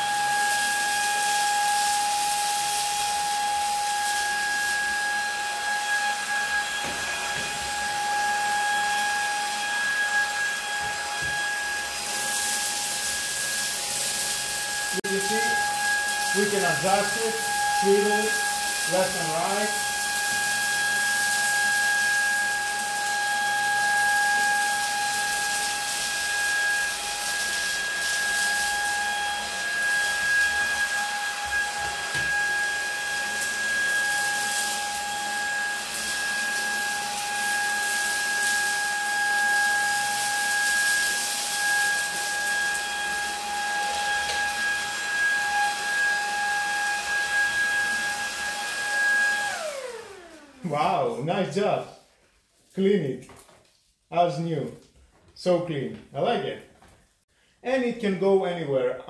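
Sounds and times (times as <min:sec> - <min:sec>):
vacuum cleaner motor whine: 0:00.0 - 0:51.6.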